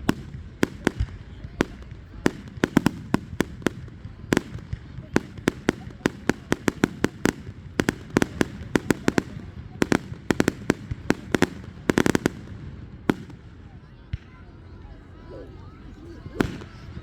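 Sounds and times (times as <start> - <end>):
fireworks bangs and cracks: 0.0 - 15.0, 16.3 - 17.0
fireworks crackling: 0.0 - 17.0.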